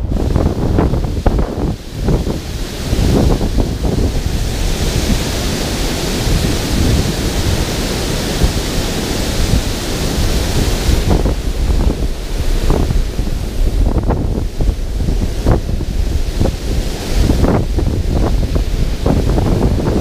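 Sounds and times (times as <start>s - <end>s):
water rushing over weir: 0.0s - 20.0s
wind buffeting microphone: 0.0s - 20.0s.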